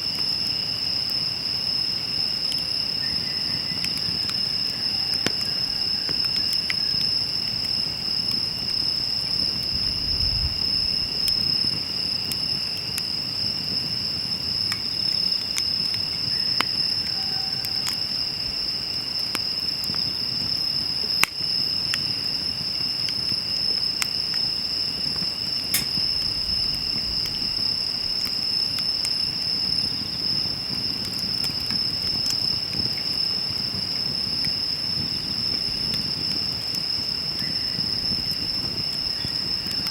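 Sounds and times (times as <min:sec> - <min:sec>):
high-pitched insect chorus: 0:00.0 - 0:39.9
campfire crackling and popping: 0:00.1 - 0:39.9.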